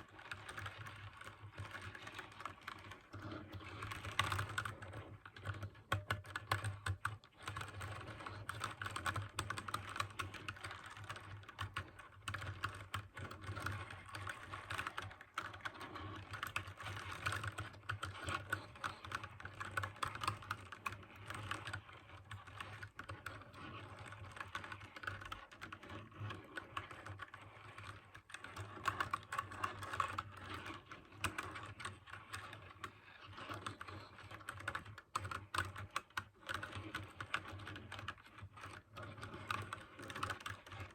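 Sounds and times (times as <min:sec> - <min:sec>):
typing on clicky mechanical keyboard: 0:00.0 - 0:40.9.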